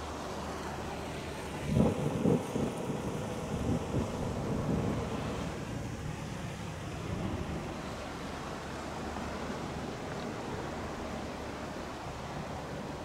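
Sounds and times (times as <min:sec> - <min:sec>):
distant propeller plane engine drone: 0:00.0 - 0:13.0
wind rumbling on microphone: 0:01.1 - 0:13.0.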